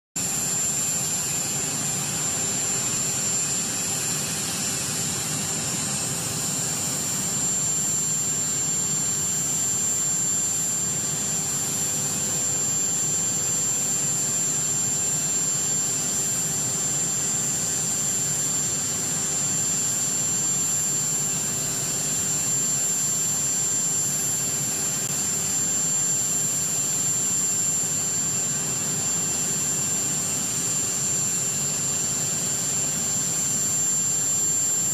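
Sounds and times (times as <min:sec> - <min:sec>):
jet engines running: 0:00.2 - 0:34.9.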